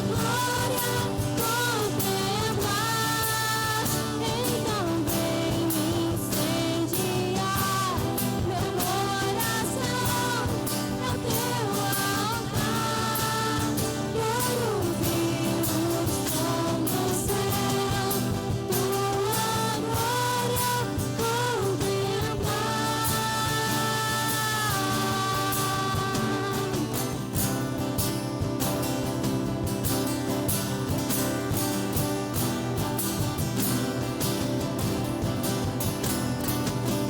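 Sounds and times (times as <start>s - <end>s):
worship song with band: 0.0s - 37.0s.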